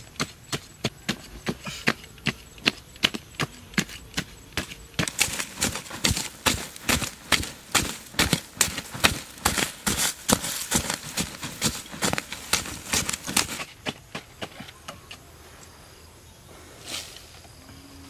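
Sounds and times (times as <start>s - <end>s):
digging blade chopping soil: 0.0s - 14.8s.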